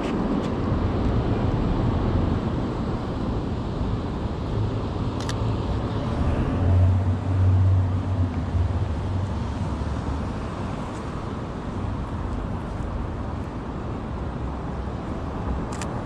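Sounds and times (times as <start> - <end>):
passing vehicles rushing: 0.0 - 16.0.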